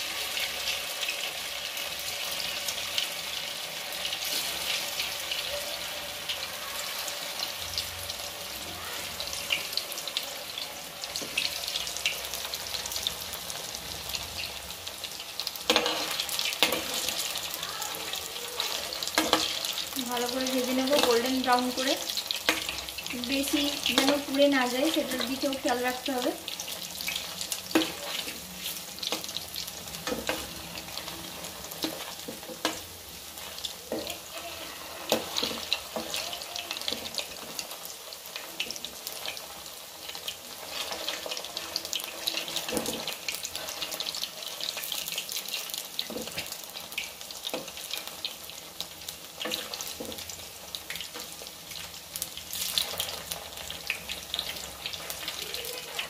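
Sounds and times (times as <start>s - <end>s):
oil sizzling and crackling: 0.0s - 56.0s.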